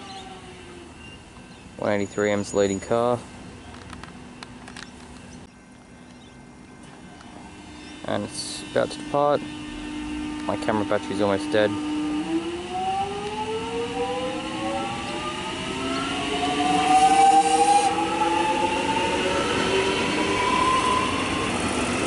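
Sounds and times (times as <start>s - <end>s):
electric train motors whining: 0.0s - 22.0s.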